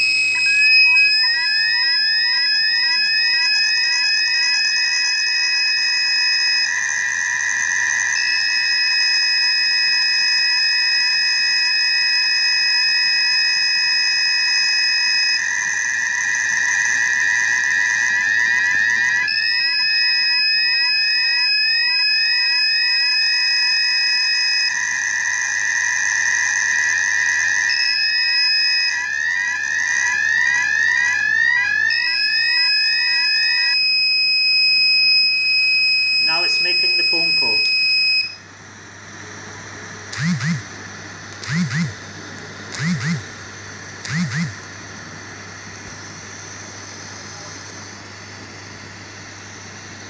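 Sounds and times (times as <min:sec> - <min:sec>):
electronic alarm siren: 0:00.0 - 0:38.5, 0:40.1 - 0:40.8, 0:41.4 - 0:42.0, 0:42.7 - 0:43.4, 0:44.0 - 0:44.7.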